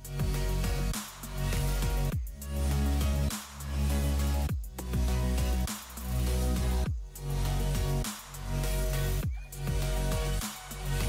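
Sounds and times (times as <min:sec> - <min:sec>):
music with sliding deep bass: 0:00.0 - 0:11.0.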